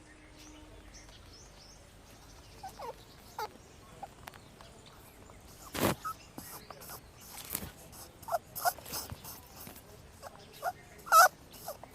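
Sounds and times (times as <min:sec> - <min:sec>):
faint steady background noise: 0:00.0 - 0:11.9.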